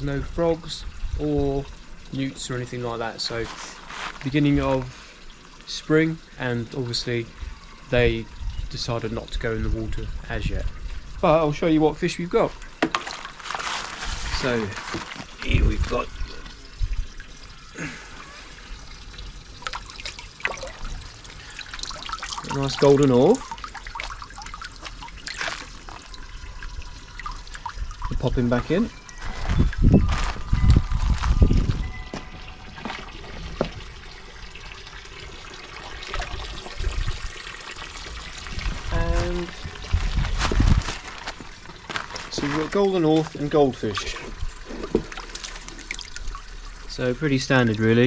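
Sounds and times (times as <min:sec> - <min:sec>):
water trickling: 0:00.0 - 0:48.0.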